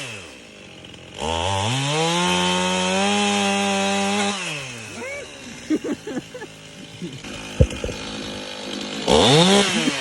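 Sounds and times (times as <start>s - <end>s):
chainsaw engine revving: 0.0s - 10.0s.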